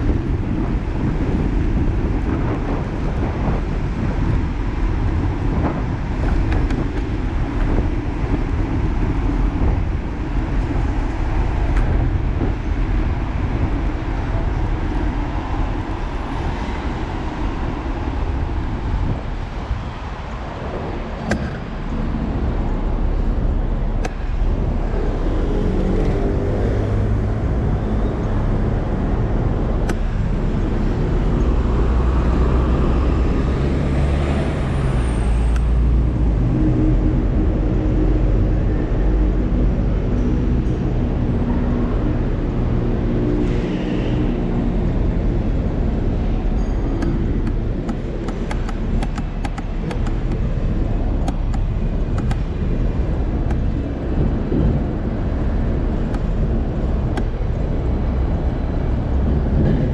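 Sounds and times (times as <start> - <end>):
bus engine: 0.0 - 59.9
cars and buses passing: 0.0 - 59.9
wind and road noise: 0.0 - 59.9.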